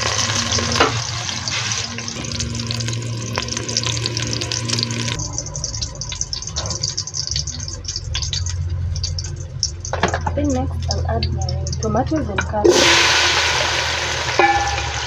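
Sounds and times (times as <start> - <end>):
onions sizzling and crackling: 0.0 - 15.0.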